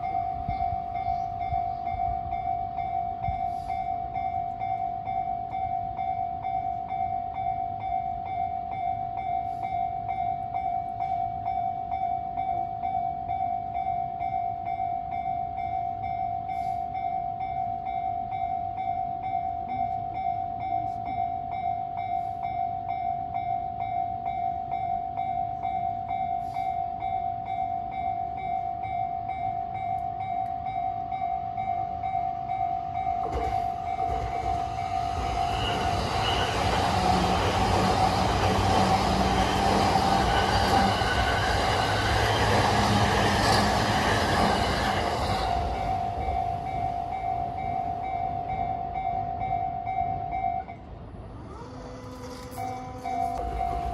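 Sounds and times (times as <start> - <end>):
electric train rumbling: 0.0 - 53.9
level crossing warning bell: 0.0 - 53.9.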